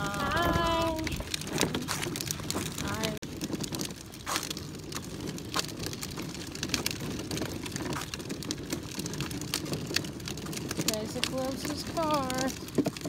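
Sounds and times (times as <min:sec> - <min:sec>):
toy car wheels rolling on asphalt: 0:00.0 - 0:13.0.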